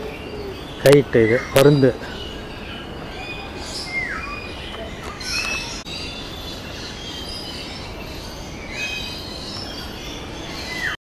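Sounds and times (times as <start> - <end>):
birds chirping: 0.0 - 11.0
birds squealing calls: 0.0 - 11.0.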